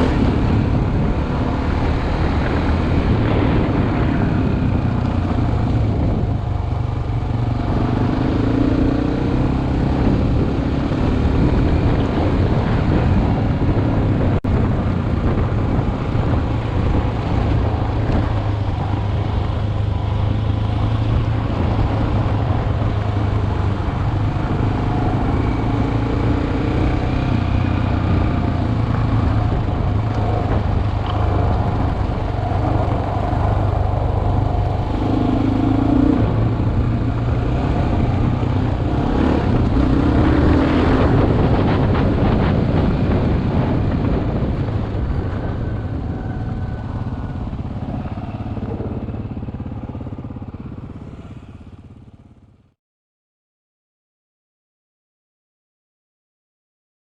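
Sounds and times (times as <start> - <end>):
motorcycle engine running: 0.0 - 52.7.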